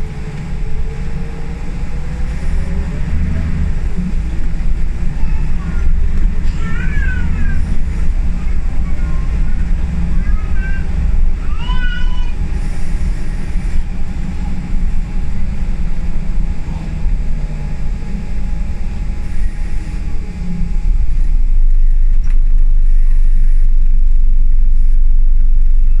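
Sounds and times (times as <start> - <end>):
bus diesel engine rumble: 0.0 - 26.0
road noise: 0.0 - 26.0.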